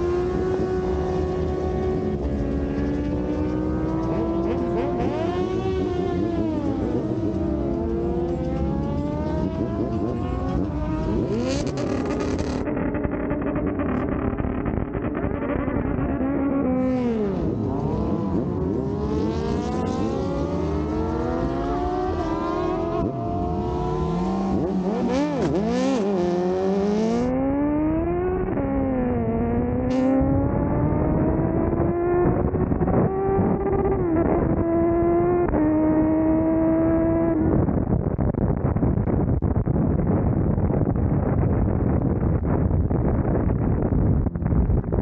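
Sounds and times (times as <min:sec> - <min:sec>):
motorcycle engine accelerating: 0:00.0 - 0:45.0
wind noise: 0:00.0 - 0:45.0.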